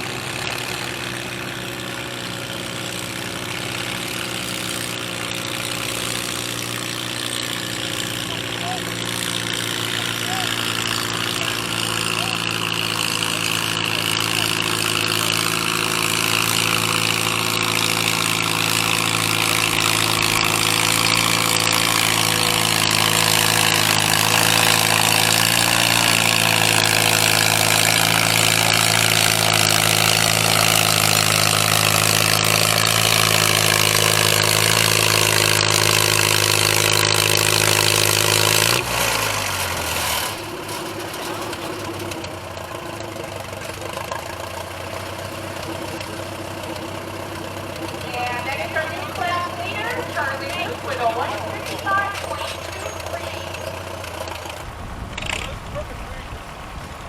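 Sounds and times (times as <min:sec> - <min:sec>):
tractor engine running hard: 0:00.0 - 0:57.0.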